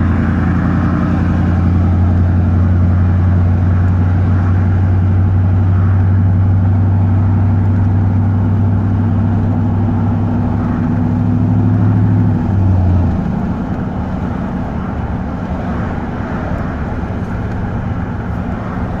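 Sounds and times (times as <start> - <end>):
engine exhaust drone: 0.0 - 19.0
road rumble: 0.0 - 19.0.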